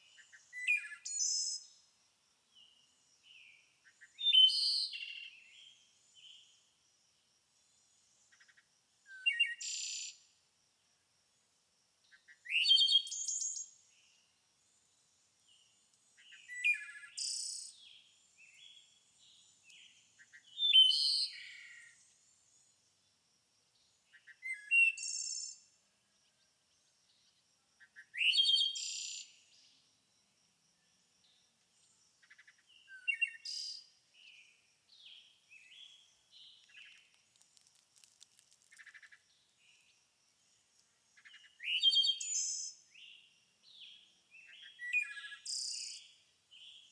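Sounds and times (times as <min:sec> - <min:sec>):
songbird chirping: 0:00.0 - 0:10.4, 0:11.4 - 0:46.9.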